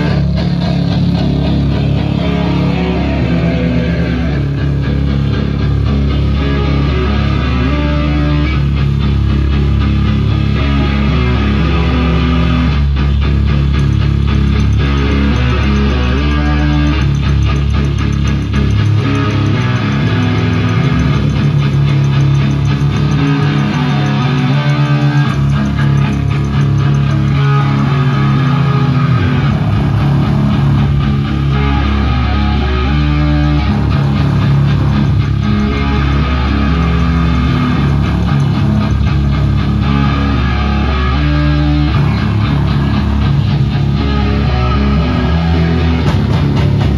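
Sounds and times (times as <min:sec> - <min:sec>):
drum kit: 0:00.0 - 0:07.1, 0:12.8 - 0:40.8, 0:41.9 - 0:46.9
bass guitar: 0:00.0 - 0:46.9
distorted electric guitar: 0:00.0 - 0:46.9.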